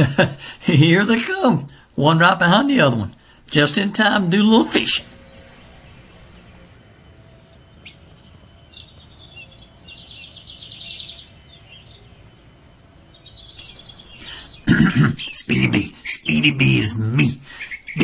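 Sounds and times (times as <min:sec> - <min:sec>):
wild birds chirping: 0:00.0 - 0:18.0
high bird trill: 0:00.7 - 0:18.0.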